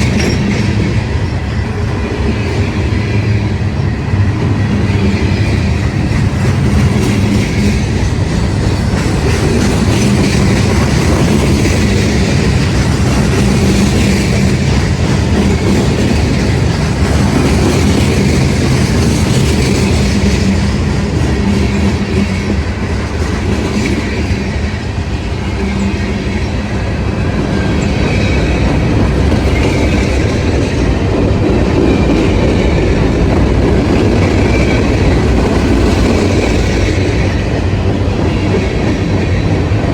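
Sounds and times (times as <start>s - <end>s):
train wheel squeal: 0.0s - 39.9s
train wheels clattering on rails: 0.0s - 39.9s.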